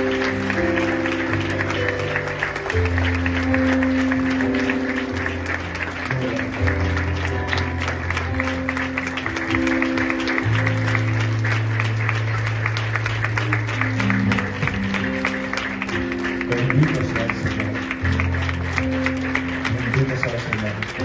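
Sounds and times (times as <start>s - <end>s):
congregation clapping: 0.0s - 21.0s
music of long held chords: 0.0s - 21.0s.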